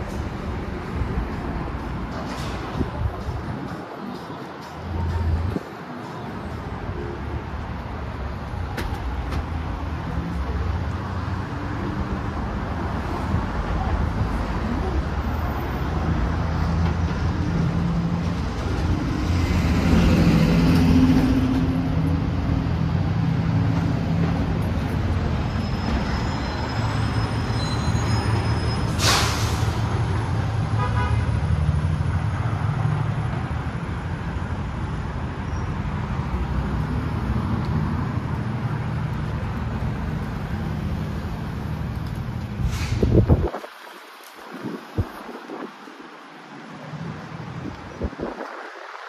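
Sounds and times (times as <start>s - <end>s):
traffic engines humming: 0.0s - 49.0s.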